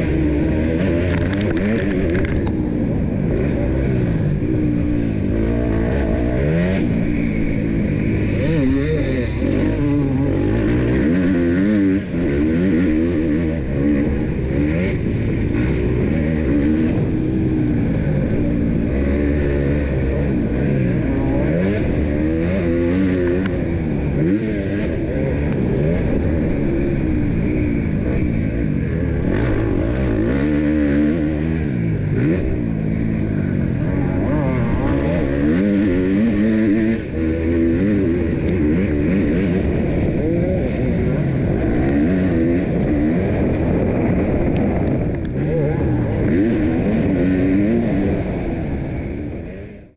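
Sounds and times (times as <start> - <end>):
motocross engine revving: 0.0 - 49.9.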